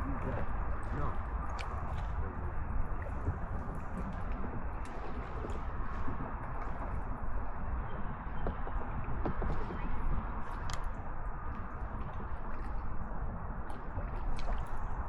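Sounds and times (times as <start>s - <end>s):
kayak paddle splashing water: 0.0s - 7.7s, 9.2s - 15.0s
steady low rumble: 0.0s - 15.0s.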